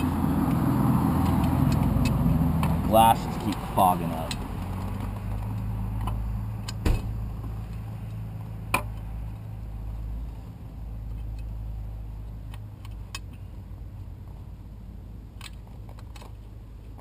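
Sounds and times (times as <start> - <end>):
engine humming: 0.0 - 16.2.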